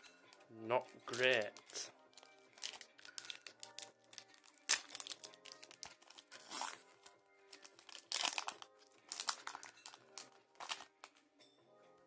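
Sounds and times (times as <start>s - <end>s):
soft background music: 0.0s - 12.0s
foil wrapper crinkling: 1.1s - 11.2s.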